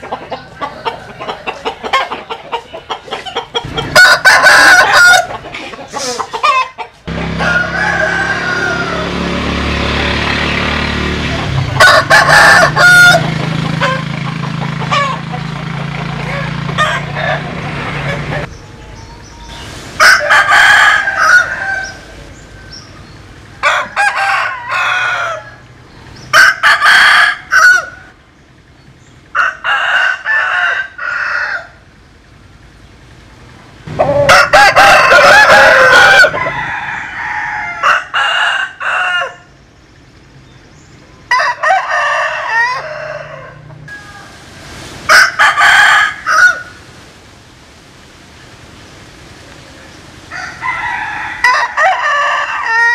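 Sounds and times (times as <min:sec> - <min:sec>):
roosters crowing: 0:00.0 - 0:28.3, 0:29.2 - 0:32.4, 0:33.9 - 0:39.7, 0:40.7 - 0:46.9, 0:49.8 - 0:52.9.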